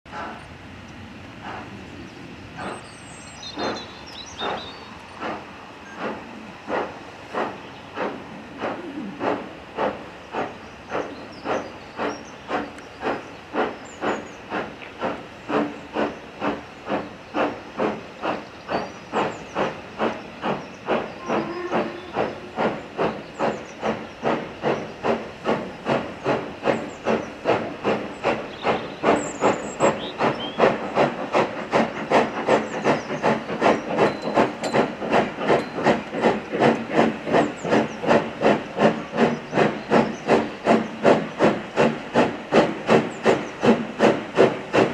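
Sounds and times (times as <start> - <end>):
steam locomotive chuffing: 0.1 - 44.9.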